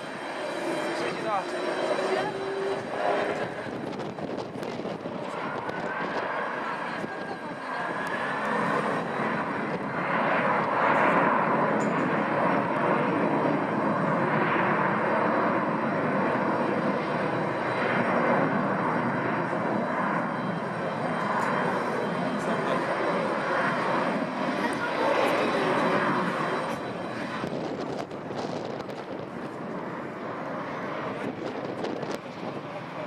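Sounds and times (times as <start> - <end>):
jet engines roaring at takeoff: 0.0 - 33.0.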